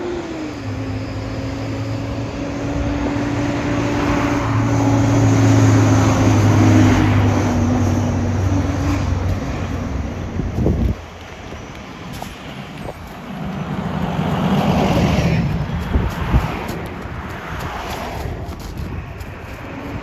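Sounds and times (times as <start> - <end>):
diesel engine hum: 0.0 - 20.0
engine cooling fan roaring: 0.0 - 20.0.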